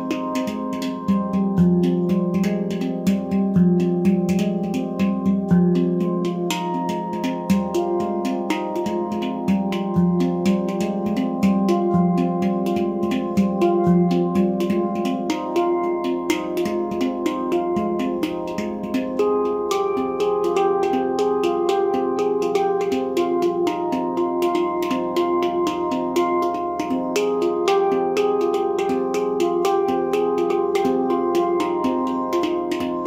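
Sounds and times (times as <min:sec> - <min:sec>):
handpan played with hands: 0:00.0 - 0:33.0.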